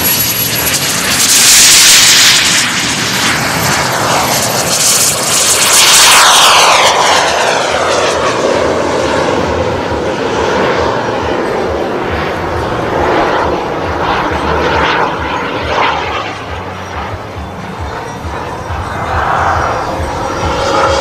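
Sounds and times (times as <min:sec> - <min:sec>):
jet turbine whine: 0:00.0 - 0:21.0.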